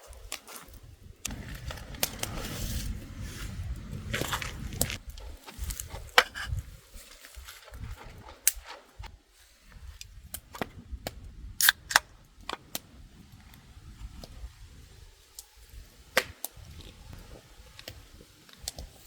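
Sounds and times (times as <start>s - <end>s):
campfire crackling and popping: 0.0s - 9.2s, 9.8s - 19.0s.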